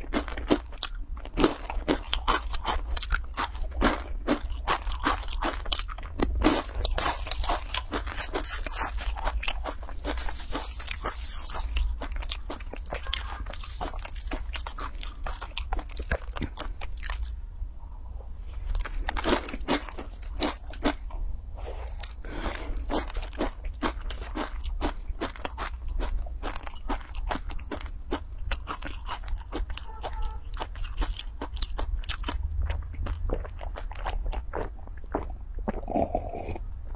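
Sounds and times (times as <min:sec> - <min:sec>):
crunching and chewing crispy snack: 0:00.0 - 0:17.4, 0:18.5 - 0:36.9.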